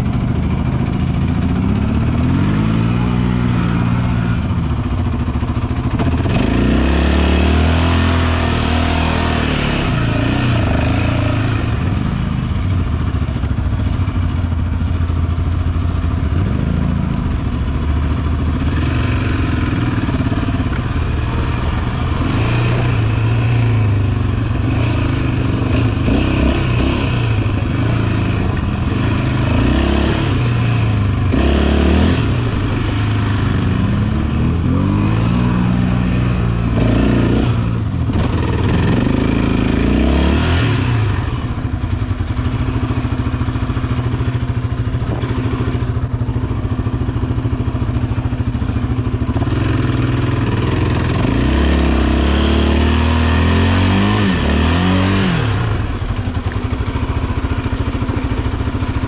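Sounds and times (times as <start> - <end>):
quad engine revving: 0.0 - 13.7, 15.9 - 59.0.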